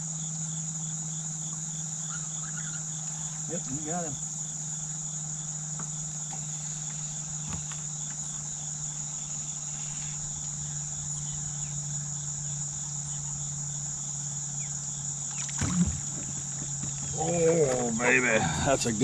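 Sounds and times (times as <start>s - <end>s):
insects trilling: 0.0s - 19.0s
low steady hum: 0.0s - 19.0s.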